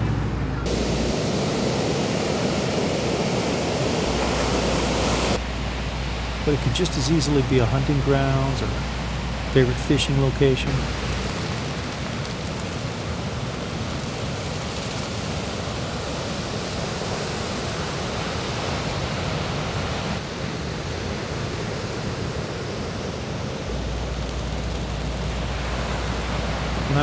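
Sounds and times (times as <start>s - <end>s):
ocean surf: 0.0s - 27.0s.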